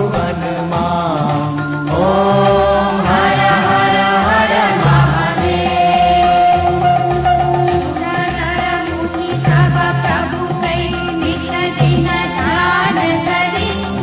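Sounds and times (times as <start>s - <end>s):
devotional song with instruments: 0.0s - 14.0s
steady drum beat: 0.0s - 14.0s.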